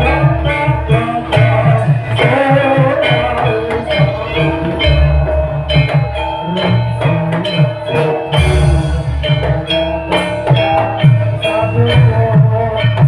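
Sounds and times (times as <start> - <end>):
bass line: 0.0 - 13.0
plucked melodic instruments: 0.0 - 13.0
steady drum beat: 0.0 - 13.0.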